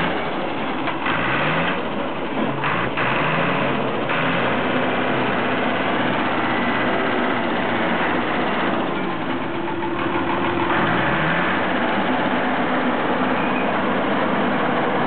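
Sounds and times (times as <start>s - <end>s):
bulldozer engine running: 0.0s - 15.0s.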